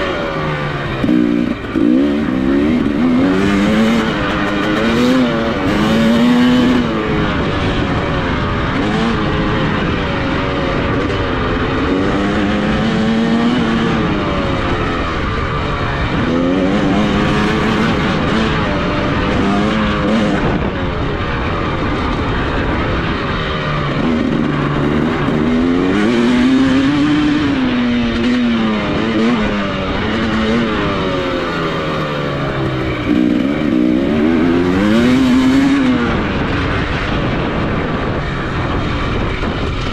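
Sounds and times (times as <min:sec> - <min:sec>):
dirt bike engine revving: 0:00.0 - 0:39.9
wind noise: 0:00.0 - 0:39.9.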